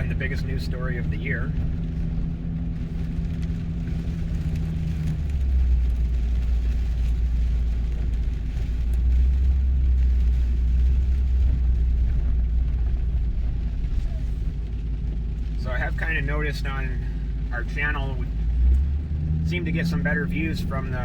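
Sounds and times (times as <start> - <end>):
car engine drone: 0.0 - 21.0
road noise: 0.0 - 21.0.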